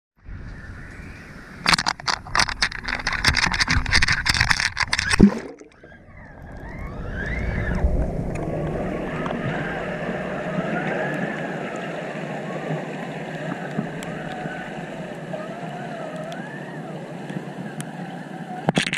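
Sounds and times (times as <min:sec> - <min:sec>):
sea water splashing: 0:01.6 - 0:18.9
faint wavering whines: 0:02.4 - 0:18.8
muffled underwater rush: 0:03.2 - 0:18.7.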